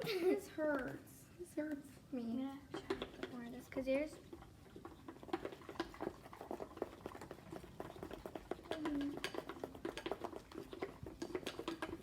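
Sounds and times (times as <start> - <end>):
wet slime squelches: 0.6 - 12.0.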